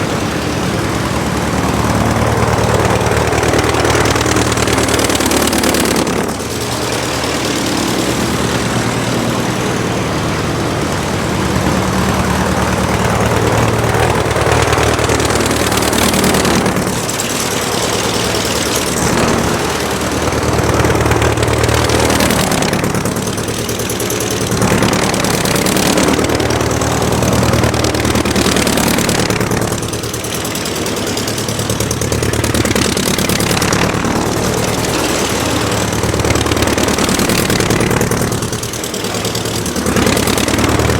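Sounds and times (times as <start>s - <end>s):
aircraft engine humming: 0.0s - 40.9s.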